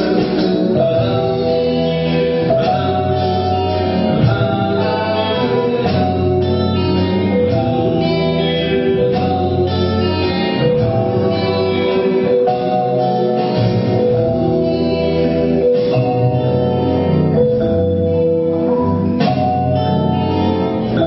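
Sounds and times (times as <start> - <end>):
person singing: 0.0 - 20.1
bass guitar: 0.0 - 21.0
electric guitar: 0.0 - 21.0
keyboard chords: 0.0 - 21.0.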